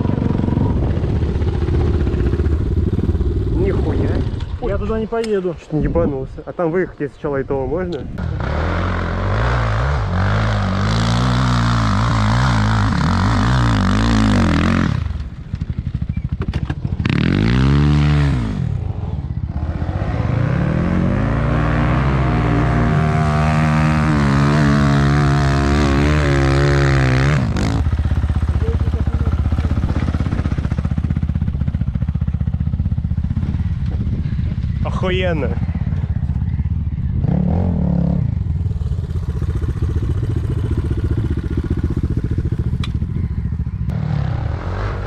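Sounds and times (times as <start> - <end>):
motorcycle engine revving: 0.0 - 4.8, 8.1 - 45.0.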